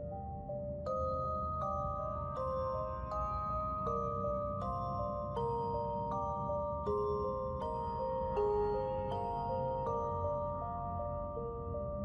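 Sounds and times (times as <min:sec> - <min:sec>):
bell-like mallet notes: 0:00.8 - 0:12.0.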